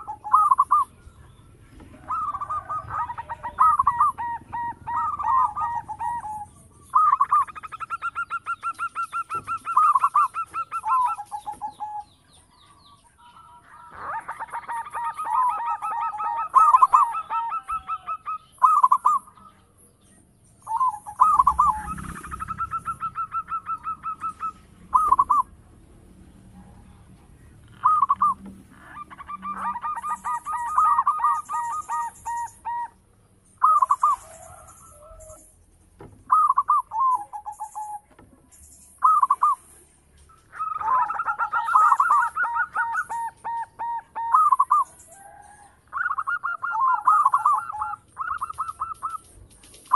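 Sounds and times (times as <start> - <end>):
dove cooing: 0.0 - 19.9, 20.6 - 35.6, 36.2 - 38.3, 38.9 - 49.9.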